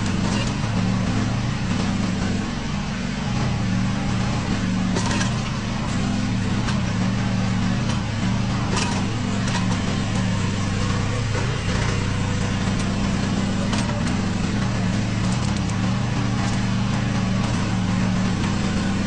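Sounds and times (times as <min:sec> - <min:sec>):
excavator engine running: 0:00.0 - 0:19.0
sharp metallic clanks: 0:03.7 - 0:19.0.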